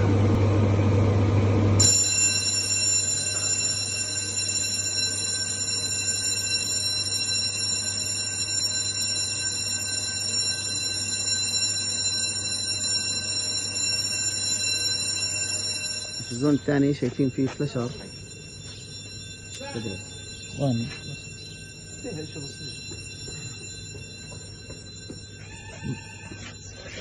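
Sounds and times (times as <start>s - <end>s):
fire alarm ringing high tone: 1.8s - 27.0s.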